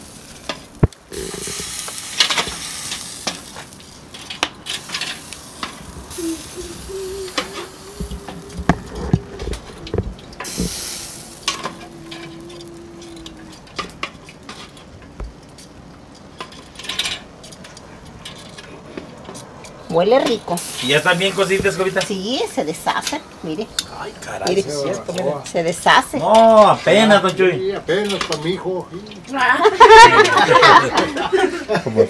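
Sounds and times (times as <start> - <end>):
ribs sizzling in hot fat: 0.0 - 17.5, 19.9 - 30.6.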